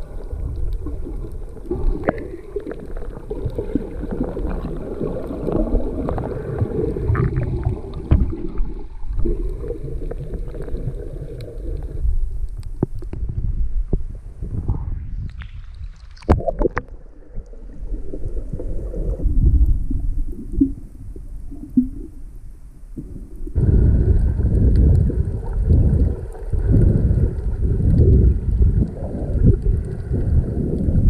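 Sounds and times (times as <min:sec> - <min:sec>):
muffled water sloshing and rumbling: 0:00.0 - 0:31.0.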